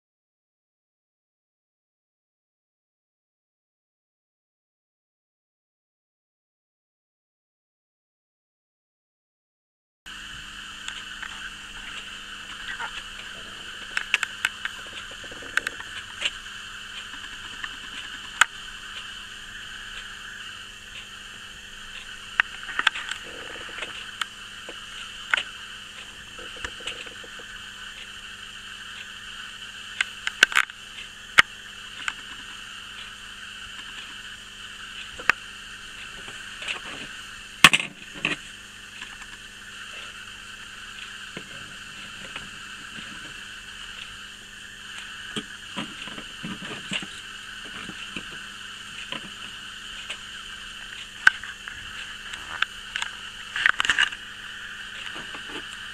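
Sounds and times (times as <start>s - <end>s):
faint hum: 10.1s - 55.9s
steady hiss: 10.1s - 55.9s.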